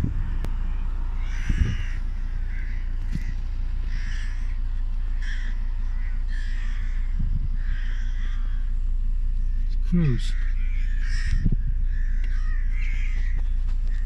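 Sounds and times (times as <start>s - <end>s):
steady low rumble: 0.0s - 14.0s
crows cawing: 0.5s - 14.0s.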